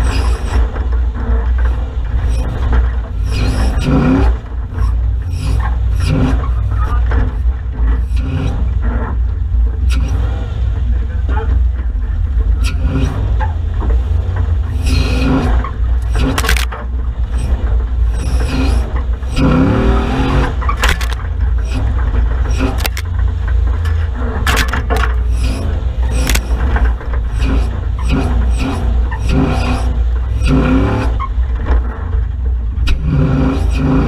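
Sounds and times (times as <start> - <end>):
off-road vehicle engine rumbling: 0.0 - 34.0
vehicle knocks and scrapes: 0.0 - 34.0.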